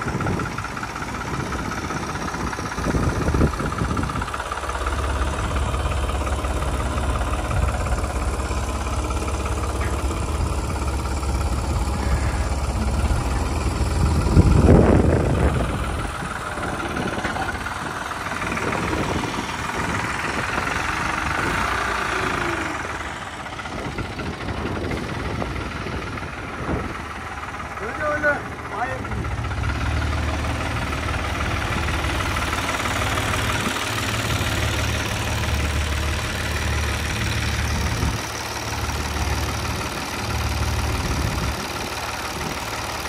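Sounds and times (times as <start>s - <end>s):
diesel tractor engine idling: 0.0s - 43.0s.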